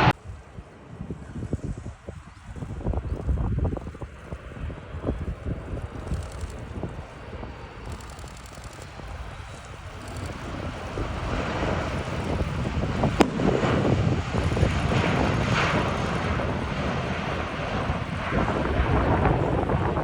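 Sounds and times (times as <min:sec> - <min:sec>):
jet engines rumbling: 0:00.0 - 0:20.0
wind buffeting microphone: 0:00.0 - 0:20.0.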